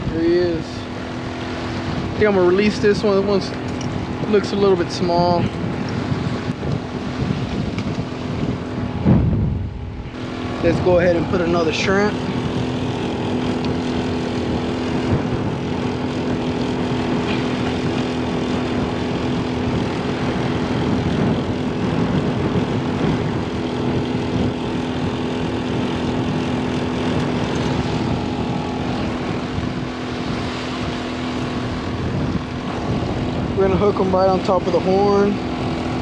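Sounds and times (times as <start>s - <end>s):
steady motor hum: 0.0s - 36.0s.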